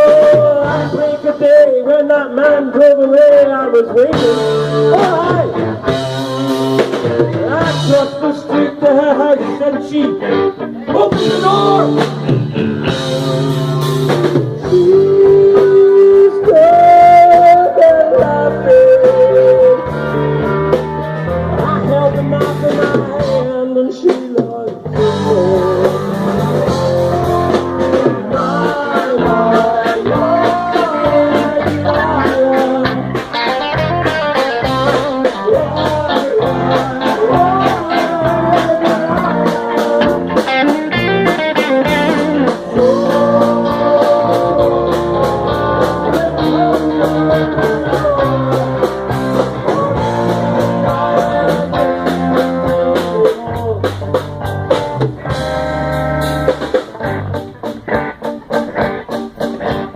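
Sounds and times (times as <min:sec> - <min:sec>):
bass guitar: 0:00.0 - 0:59.9
wavering electric guitar lead: 0:00.0 - 0:59.9
steady drum beat: 0:04.0 - 0:08.3, 0:11.0 - 0:23.5, 0:24.1 - 0:59.9.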